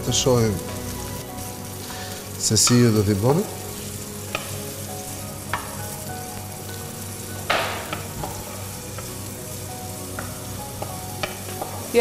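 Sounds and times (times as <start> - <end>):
pepper sizzling in hot oil: 0.0 - 12.0.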